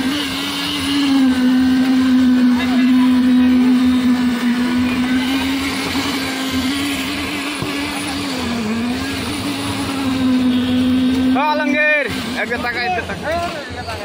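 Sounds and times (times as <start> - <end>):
concrete vibrator humming: 0.0 - 13.9.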